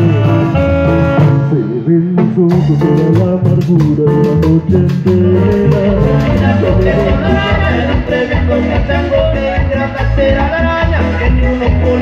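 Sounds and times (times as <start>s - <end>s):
male singer: 0.0s - 0.6s, 1.2s - 12.0s
bass guitar: 0.0s - 12.0s
steady percussion: 2.2s - 12.0s.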